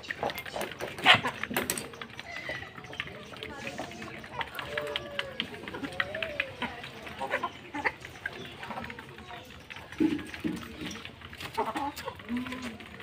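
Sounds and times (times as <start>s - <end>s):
beaks tapping on concrete: 0.0s - 13.0s
chickens clucking: 0.0s - 13.0s.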